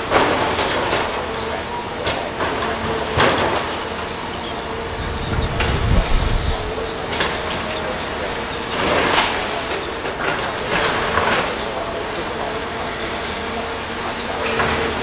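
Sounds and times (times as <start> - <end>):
truck engine and hydraulics drone: 0.0 - 15.0.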